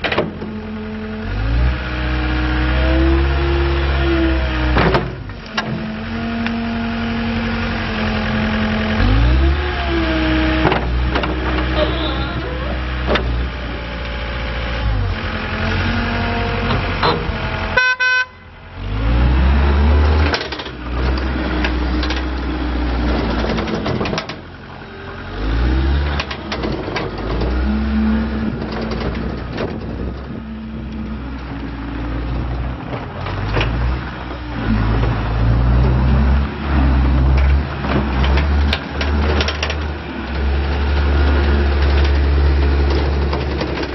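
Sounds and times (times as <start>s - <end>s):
diesel loader engine revving: 0.0s - 43.9s.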